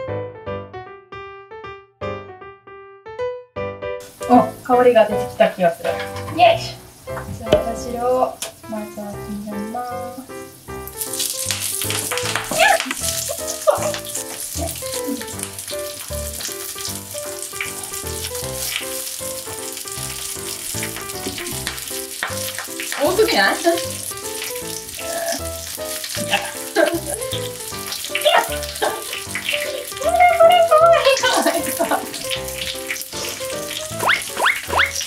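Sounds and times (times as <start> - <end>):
background music: 3.6 - 35.0
food sizzling in a frying pan: 4.0 - 35.0.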